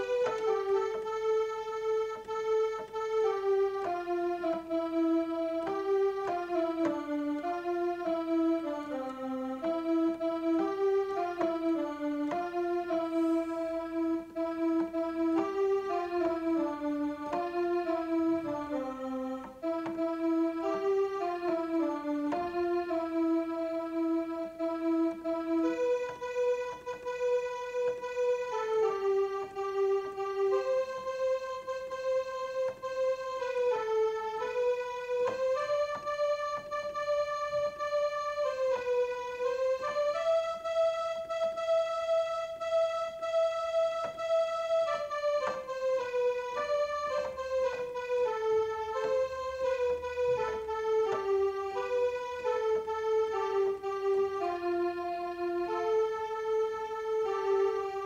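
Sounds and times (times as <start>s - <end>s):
electronic keyboard melody: 0.0s - 58.0s.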